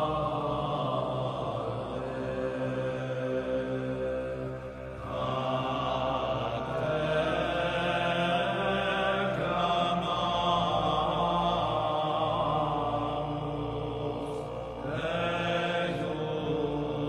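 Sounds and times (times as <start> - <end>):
droning chant-like music: 0.0 - 17.0.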